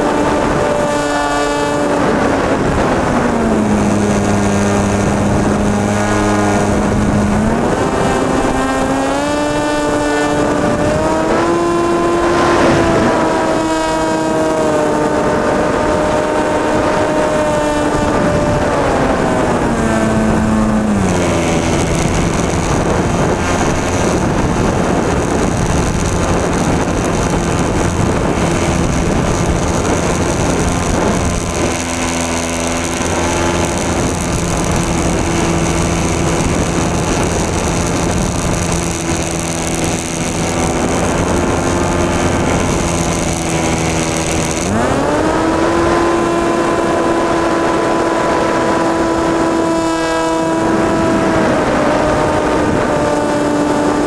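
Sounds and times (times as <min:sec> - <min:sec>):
electric motor and propeller whine: 0:00.0 - 0:54.0
wind rushing: 0:00.0 - 0:54.0.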